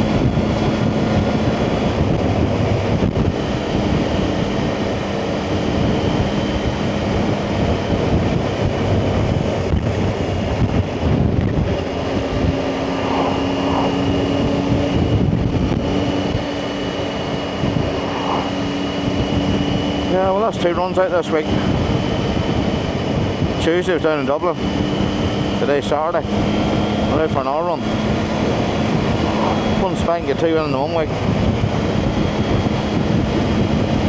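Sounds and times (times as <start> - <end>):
motorcycle engine running: 0.0 - 34.0
wind rushing over microphone: 0.0 - 34.0.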